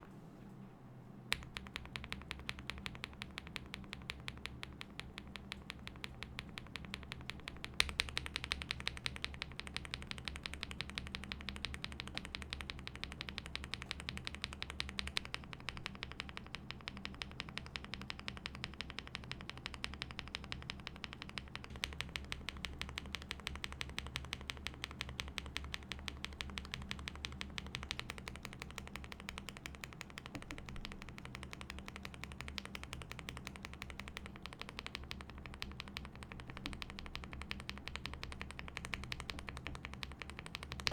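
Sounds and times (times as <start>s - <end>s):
mechanical keyboard typing: 1.3s - 40.9s.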